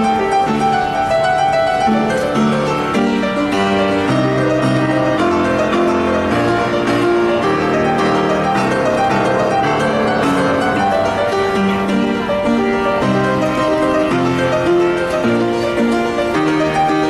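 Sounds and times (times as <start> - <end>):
piano playing classical piece: 0.0 - 17.0.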